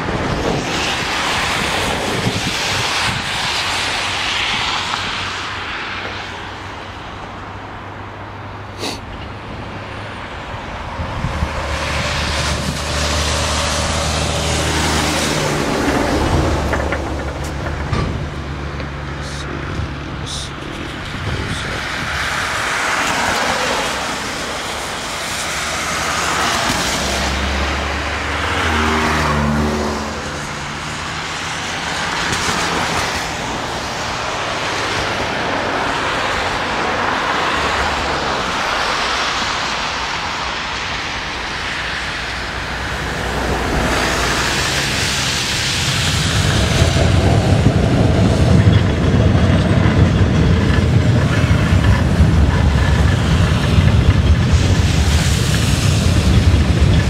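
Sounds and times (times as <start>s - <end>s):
cars passing on wet road: 0.0s - 57.0s
subway train rumbling: 0.0s - 57.0s.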